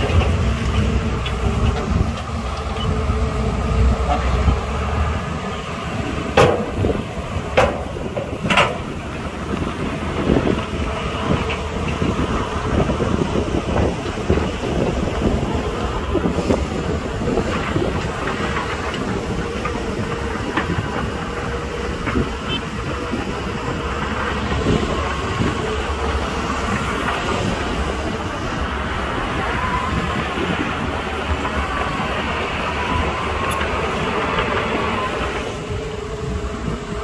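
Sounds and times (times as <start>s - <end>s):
bulldozer diesel engine running: 0.0s - 37.0s
steel tracks clanking and rattling: 0.0s - 37.0s.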